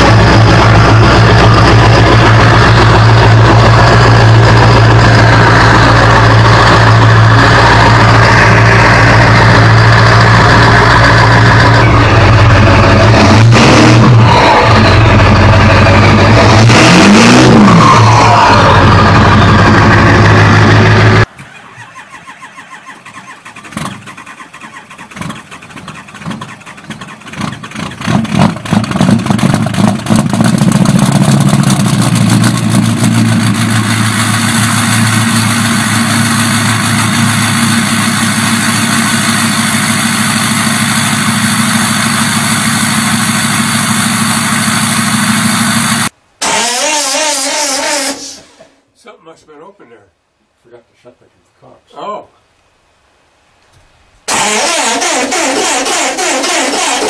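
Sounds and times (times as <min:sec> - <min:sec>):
loud engine running: 0:00.0 - 0:21.4, 0:23.4 - 0:48.6, 0:54.3 - 0:57.0
cold engine starting: 0:00.0 - 0:48.8, 0:54.3 - 0:57.0.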